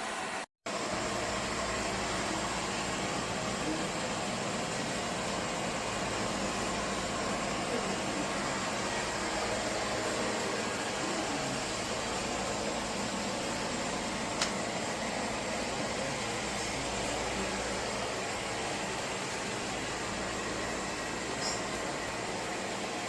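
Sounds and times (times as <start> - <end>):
robot vacuum cleaner running: 0.0 - 23.0.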